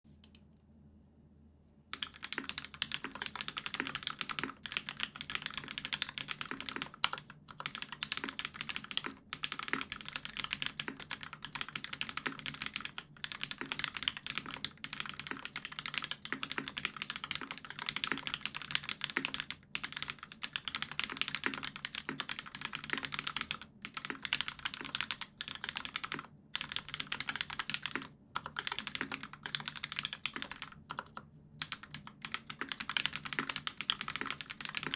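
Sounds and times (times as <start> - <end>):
fast typing on mechanical keyboard: 2.0 - 34.9.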